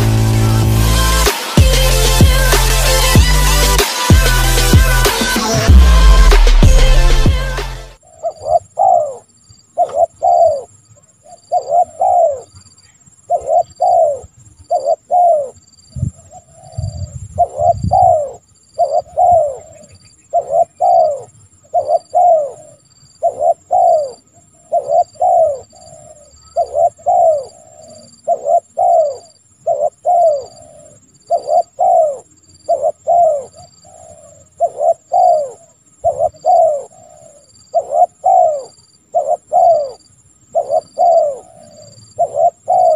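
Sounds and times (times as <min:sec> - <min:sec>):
dove cooing: 0:08.0 - 0:42.9.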